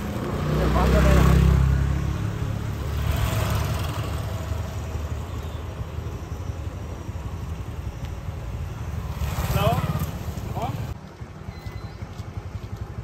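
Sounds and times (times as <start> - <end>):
motorcycle engines rumbling by: 0.0 - 13.0.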